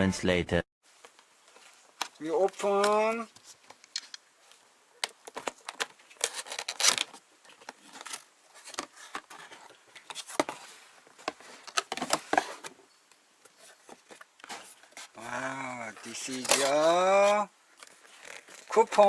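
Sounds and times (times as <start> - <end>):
cardboard box being handled: 0.9 - 19.0.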